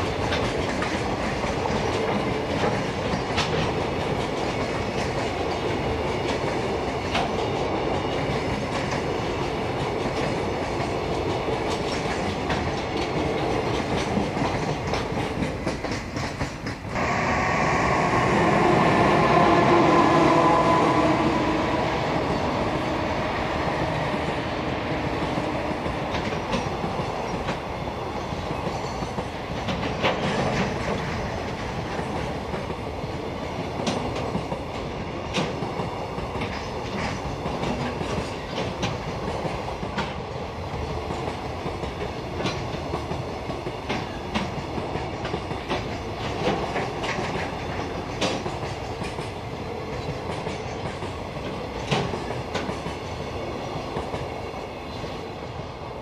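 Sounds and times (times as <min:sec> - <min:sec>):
freight train rumble: 0:00.0 - 0:56.0.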